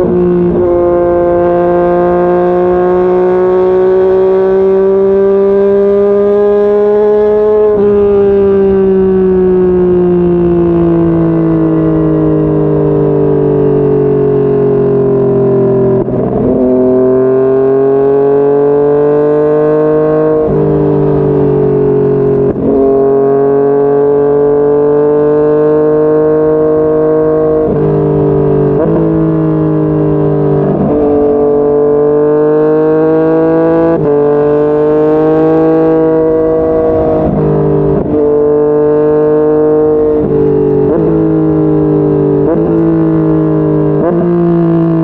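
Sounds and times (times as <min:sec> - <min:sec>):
motorcycle engine revving and shifting: 0:00.0 - 0:45.0.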